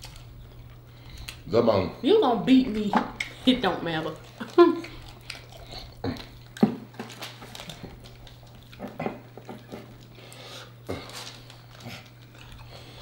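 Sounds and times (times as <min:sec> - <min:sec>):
wet chewing and biting: 0:00.0 - 0:01.5, 0:02.8 - 0:13.0
steady low hum: 0:00.0 - 0:13.0.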